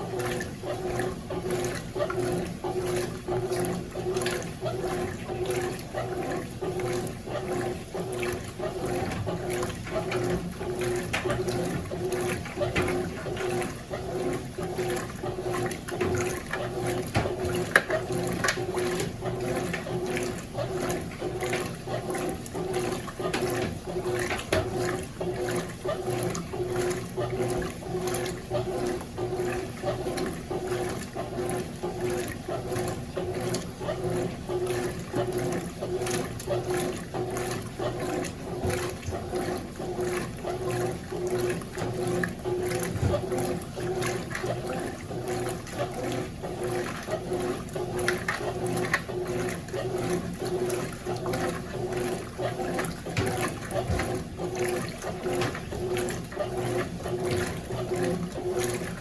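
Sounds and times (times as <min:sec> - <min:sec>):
washing machine motor hum: 0:00.0 - 0:59.0
water sloshing in washing machine: 0:00.0 - 0:59.0.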